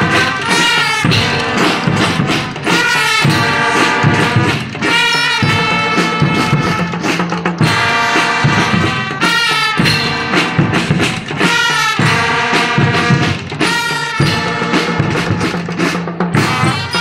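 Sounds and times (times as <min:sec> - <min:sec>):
bass drum and drum beats: 0:00.0 - 0:17.0
brass instruments melody: 0:00.0 - 0:17.0.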